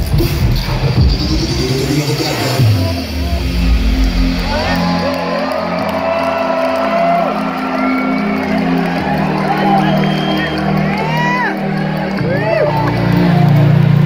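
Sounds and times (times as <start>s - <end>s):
loud electronic dance music: 0.0s - 14.0s.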